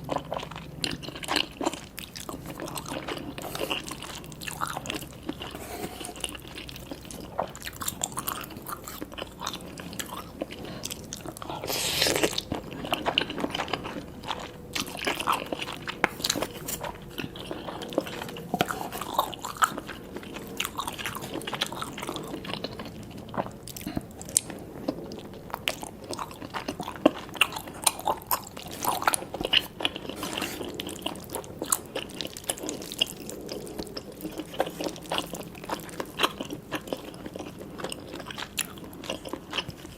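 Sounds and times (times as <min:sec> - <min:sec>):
loud noisy eating sound: 0:00.0 - 0:39.9
wet chewing and biting: 0:00.0 - 0:39.9.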